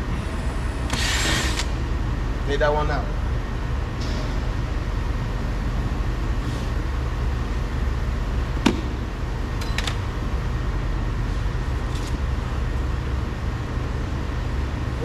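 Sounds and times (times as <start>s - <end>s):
workshop hum and rush: 0.0s - 15.0s.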